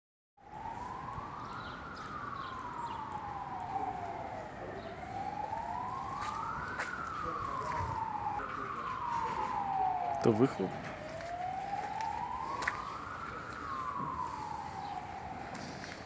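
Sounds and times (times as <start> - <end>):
siren wailing: 0.4 - 16.0.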